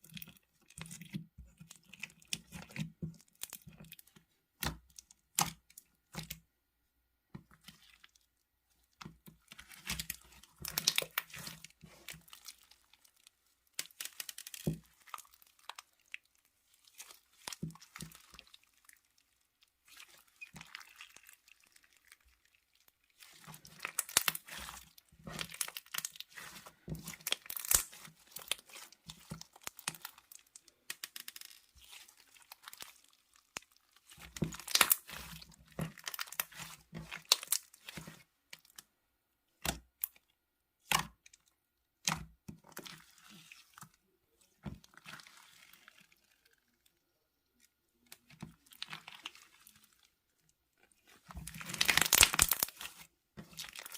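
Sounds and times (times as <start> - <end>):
hands squishing slime: 0.0 - 6.4, 7.4 - 38.8, 42.0 - 46.8, 48.0 - 50.1, 50.8 - 53.9.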